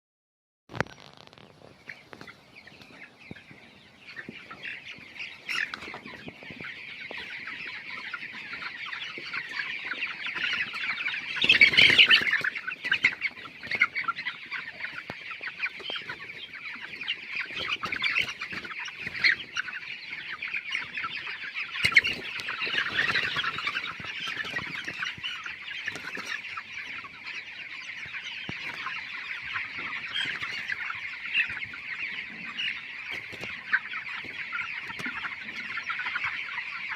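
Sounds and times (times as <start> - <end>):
chicks peeping and chirping: 0.7 - 36.9.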